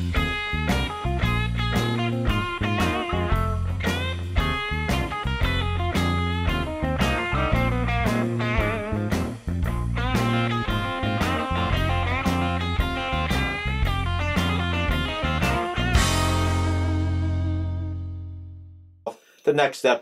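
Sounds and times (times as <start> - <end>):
plucked guitar notes: 0.0 - 18.7
bass line: 0.0 - 19.0.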